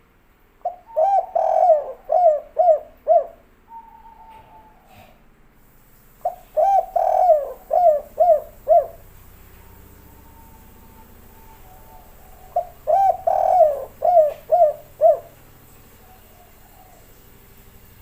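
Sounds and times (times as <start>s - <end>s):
dove cooing: 0.6s - 5.2s, 6.2s - 17.3s.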